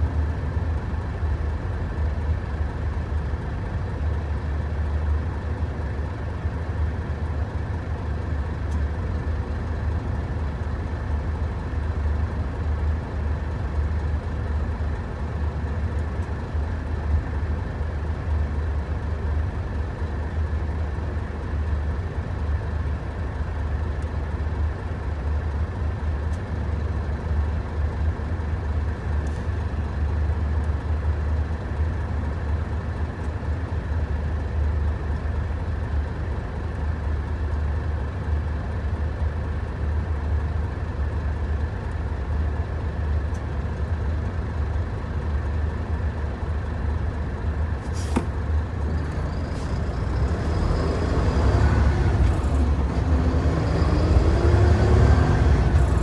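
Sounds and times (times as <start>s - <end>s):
diesel truck engine idling: 0.0s - 53.6s, 54.2s - 56.0s.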